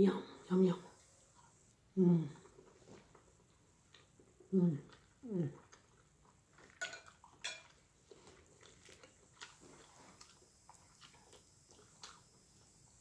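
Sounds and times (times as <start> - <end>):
food crackling being bitten: 2.4 - 13.0.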